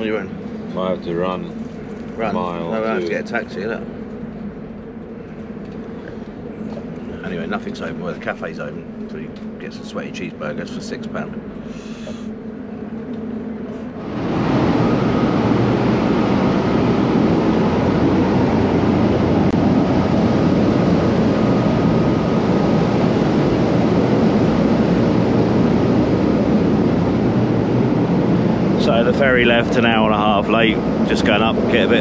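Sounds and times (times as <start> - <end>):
faint steady hum: 0.0 - 32.0
ship engine and ventilation noise: 0.0 - 32.0
wind on microphone: 4.4 - 32.0.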